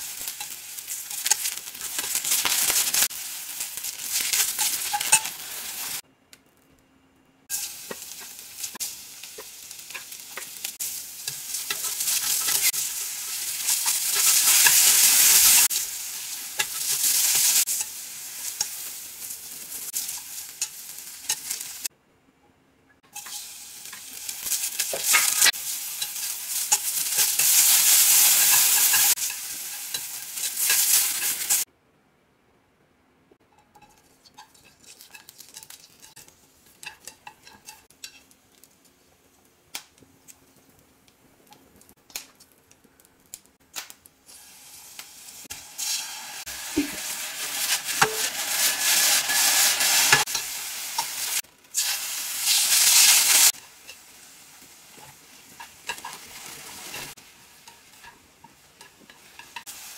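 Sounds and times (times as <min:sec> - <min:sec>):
vegetables sizzling in frying pan: 0:00.0 - 0:06.0, 0:07.5 - 0:21.9, 0:23.1 - 0:31.7, 0:33.8 - 0:39.1, 0:44.3 - 0:59.9.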